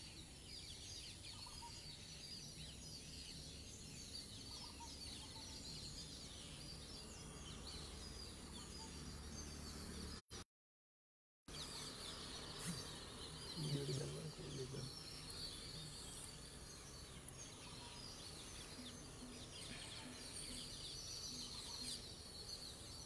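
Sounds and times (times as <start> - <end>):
small birds chirping: 0.0 - 10.2, 11.5 - 23.0.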